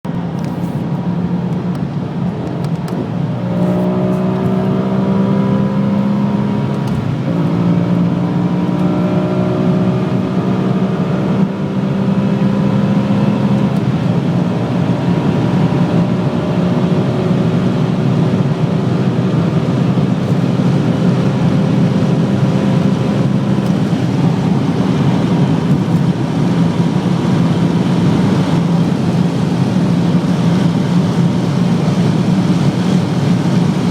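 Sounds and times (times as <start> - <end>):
road and wind noise: 0.0 - 33.9
car engine accelerating: 0.1 - 33.9.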